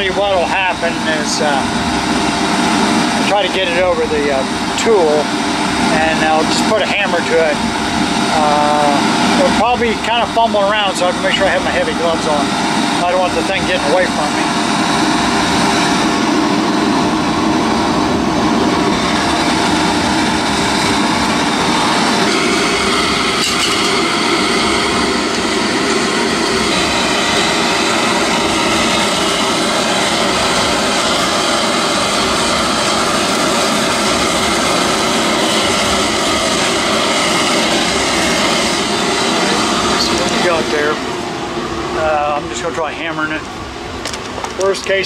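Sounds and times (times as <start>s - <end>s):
gas burner roaring with blower: 0.0s - 45.0s.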